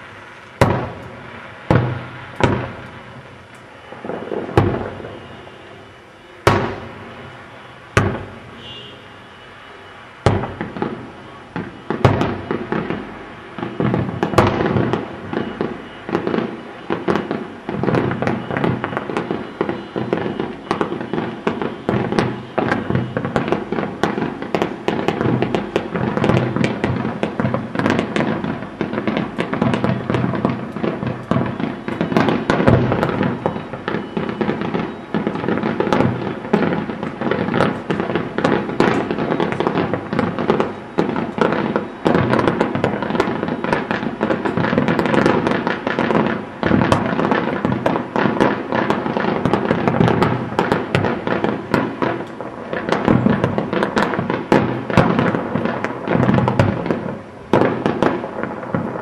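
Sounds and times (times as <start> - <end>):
fireworks bangs pops and crackles: 0.0 - 9.0, 9.9 - 59.0.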